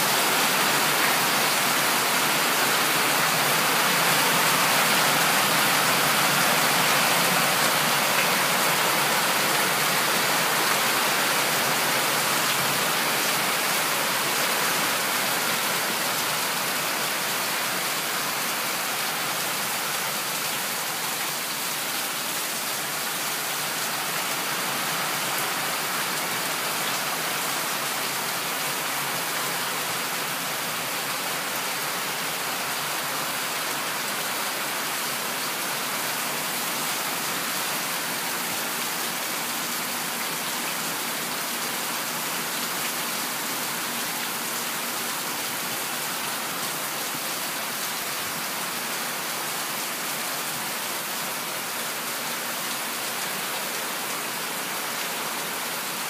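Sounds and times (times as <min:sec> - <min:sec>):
heavy rain on lawn: 0:00.0 - 0:56.0.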